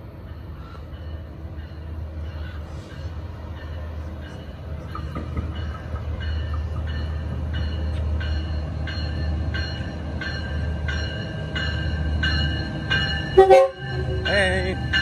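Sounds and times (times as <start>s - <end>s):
train rumble: 0.0s - 15.0s
train bell ringing: 0.2s - 15.0s.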